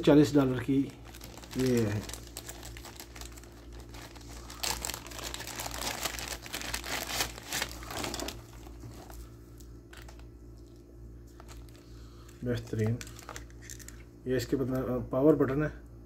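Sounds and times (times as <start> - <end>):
plastic bags crinkling: 0.0 - 14.0
low steady hum: 0.0 - 16.0.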